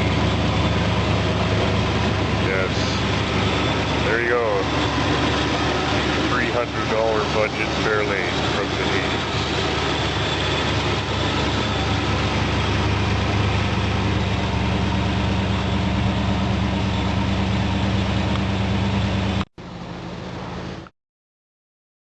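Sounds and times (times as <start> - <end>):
quieter steady sound: 0.0 - 19.9
car engine running: 0.0 - 20.9.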